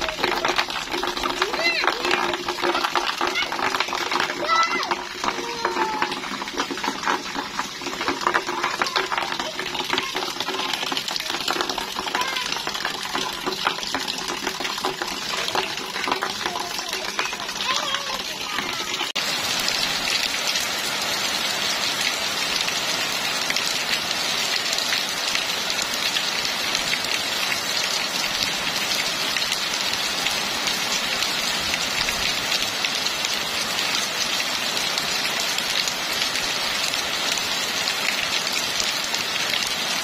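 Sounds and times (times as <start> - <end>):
rain splashing on standing water: 0.0 - 40.0.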